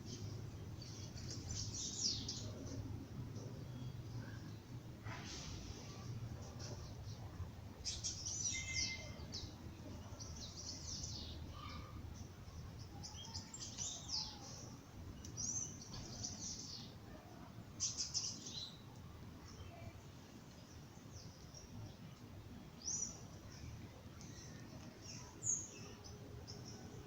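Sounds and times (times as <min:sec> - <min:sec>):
birds singing: 0:00.0 - 0:04.7, 0:05.9 - 0:17.1, 0:17.8 - 0:22.2, 0:22.8 - 0:27.0
low steady hum: 0:00.0 - 0:27.0.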